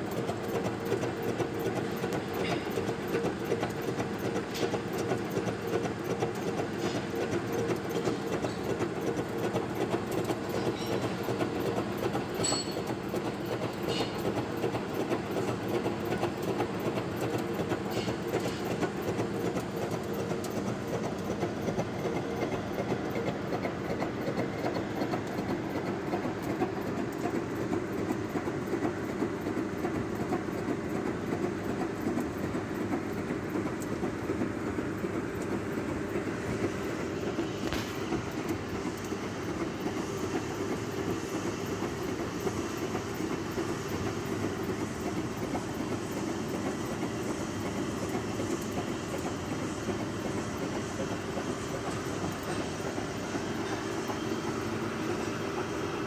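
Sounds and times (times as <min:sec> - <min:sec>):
milling cutter clattering on steel: 0:00.1 - 0:28.8, 0:36.6 - 0:55.8.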